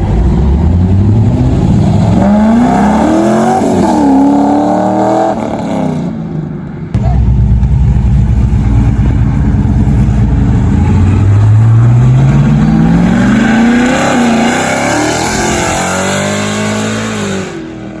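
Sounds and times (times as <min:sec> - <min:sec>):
car engine revving: 0:00.0 - 0:06.2, 0:07.0 - 0:18.0.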